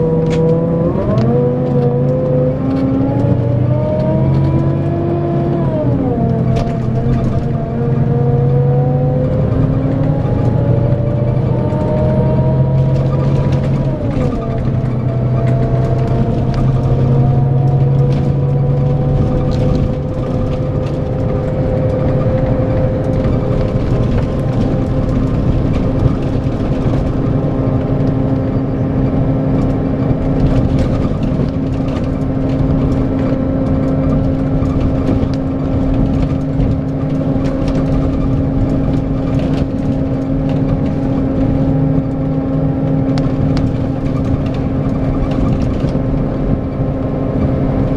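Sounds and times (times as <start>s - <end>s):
diesel engine running: 0.0s - 47.9s
road noise: 0.0s - 47.9s
steady whining tones: 0.0s - 47.9s.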